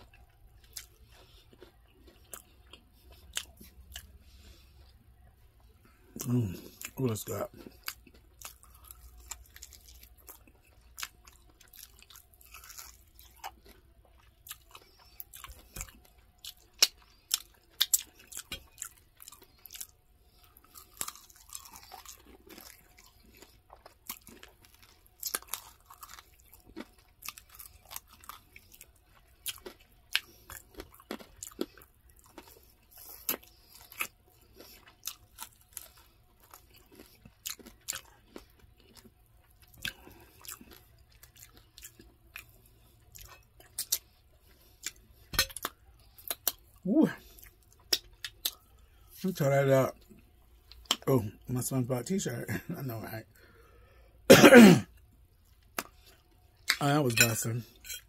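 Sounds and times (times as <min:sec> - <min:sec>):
person chewing crunchy chicken: 0:00.0 - 0:54.2, 0:54.8 - 0:58.0.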